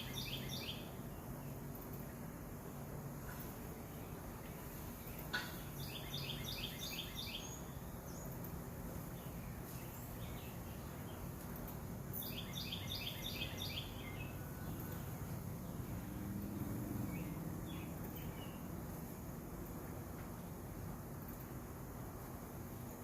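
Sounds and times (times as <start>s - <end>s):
low background noise: 0.0s - 23.0s
songbird singing: 0.0s - 23.0s.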